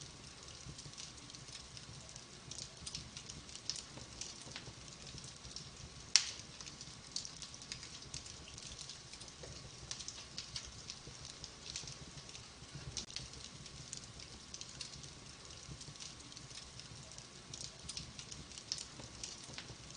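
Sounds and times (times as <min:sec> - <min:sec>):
wood fire crackling: 0:00.0 - 0:19.9.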